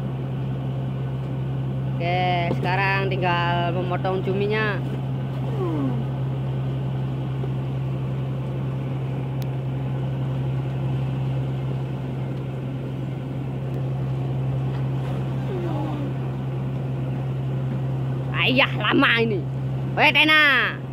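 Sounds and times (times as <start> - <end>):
boat machinery humming: 0.0 - 20.9.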